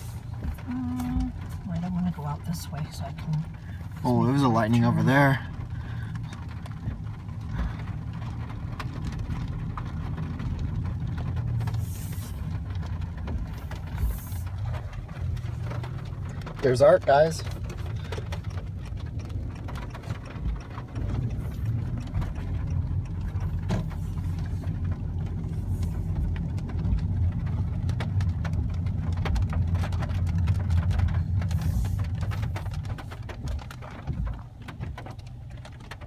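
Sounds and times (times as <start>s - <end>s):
car engine and road rumble: 0.0s - 36.0s
light ticks: 0.4s - 36.0s.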